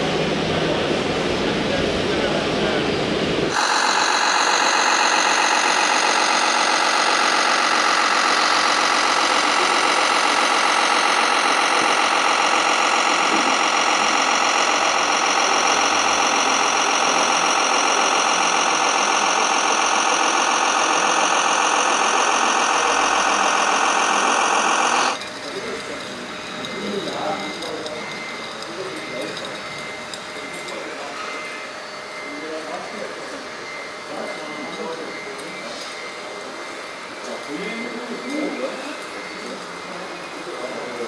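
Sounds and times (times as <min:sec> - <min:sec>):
simulated diesel engine idling: 0:00.0 - 0:41.0.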